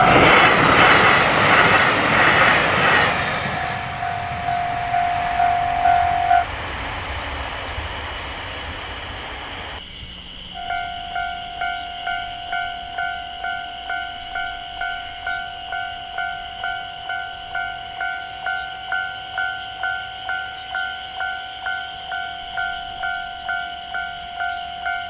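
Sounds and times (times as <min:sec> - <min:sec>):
crossing warning bell dinging: 0:00.0 - 0:06.5, 0:09.8 - 0:25.0
train rumbling and clattering: 0:00.0 - 0:25.0.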